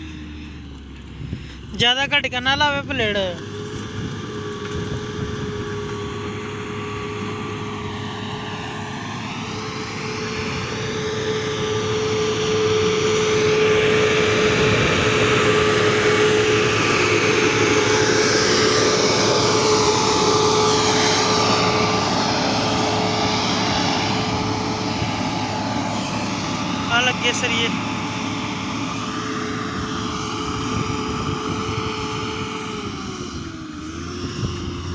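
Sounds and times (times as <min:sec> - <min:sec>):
diesel engine running under load: 0:00.0 - 0:34.9
steady whine: 0:00.0 - 0:34.9.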